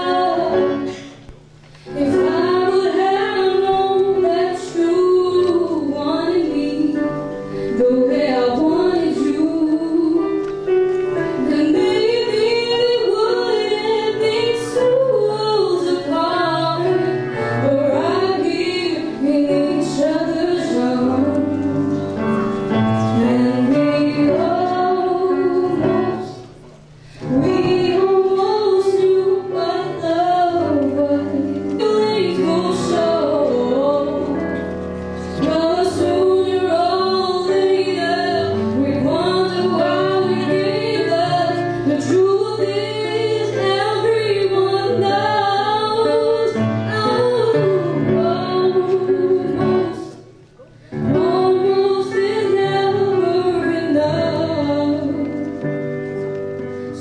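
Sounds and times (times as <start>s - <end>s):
woman singing: 0.0s - 1.2s, 1.9s - 10.5s, 11.2s - 26.5s, 27.2s - 34.6s, 35.3s - 50.3s, 50.9s - 55.6s
instrumental accompaniment: 0.0s - 57.0s.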